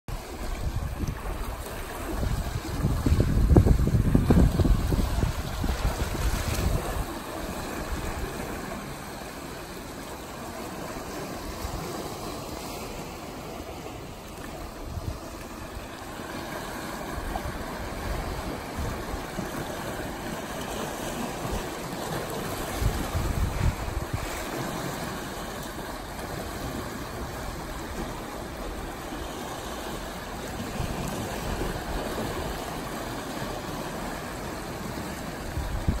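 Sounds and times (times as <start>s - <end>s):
wind buffeting microphone: 0.1s - 9.6s, 11.0s - 29.2s, 33.6s - 36.0s
sea waves splashing over rocks: 0.1s - 36.0s.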